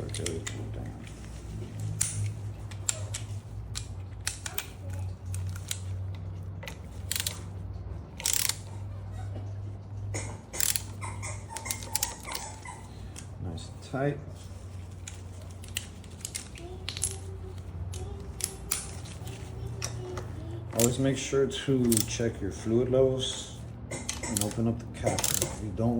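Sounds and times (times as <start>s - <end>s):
ratcheting wrench clicks: 0.0s - 7.5s, 8.2s - 8.7s, 10.2s - 13.3s, 14.9s - 22.4s, 23.4s - 25.7s.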